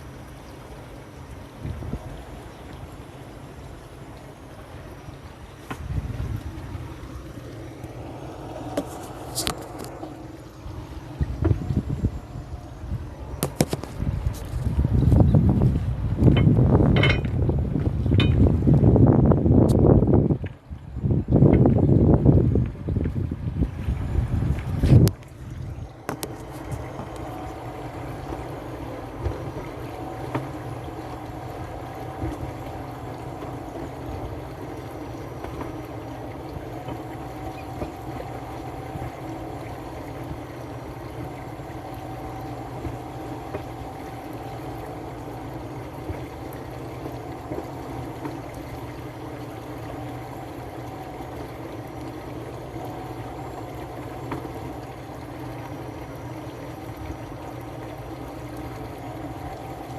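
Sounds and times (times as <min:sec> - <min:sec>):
faint wavering whine: 0:00.0 - 0:59.9
speedboat engine running: 0:00.0 - 0:59.9.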